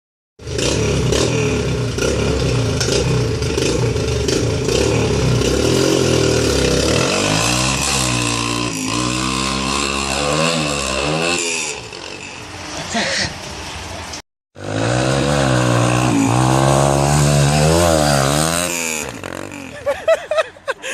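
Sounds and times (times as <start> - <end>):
dirt bike engine revving: 0.4 - 12.7, 14.6 - 19.9.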